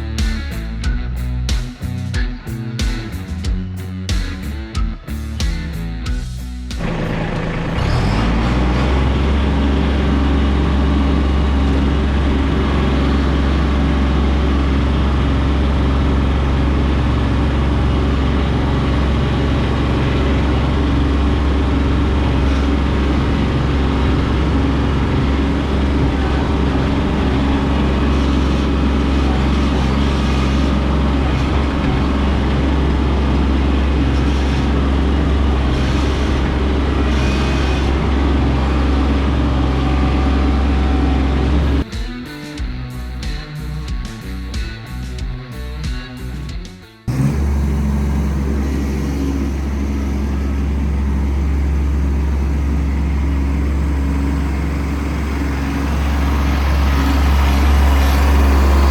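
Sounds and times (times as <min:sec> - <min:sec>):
tractor diesel engine running: 0:00.0 - 0:42.0, 0:42.6 - 0:58.9.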